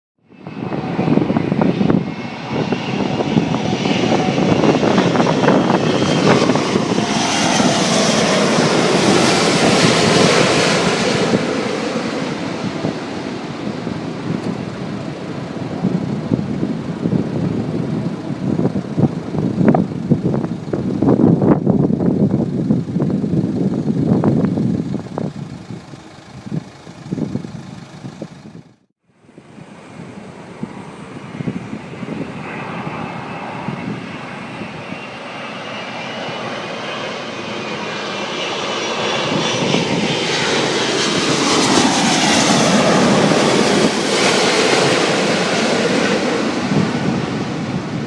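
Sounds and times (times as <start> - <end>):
jet engines rumbling with whine: 0.2 - 48.0.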